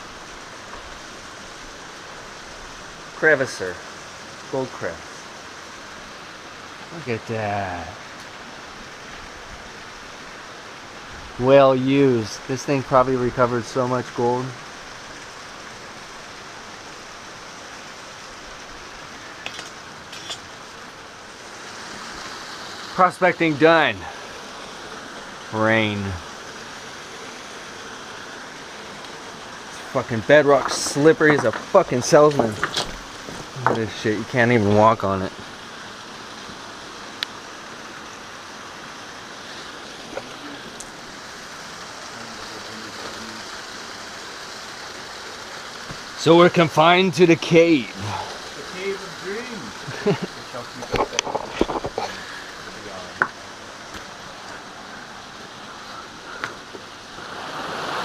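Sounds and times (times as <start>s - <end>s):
rain and creek water hiss: 0.0s - 58.0s.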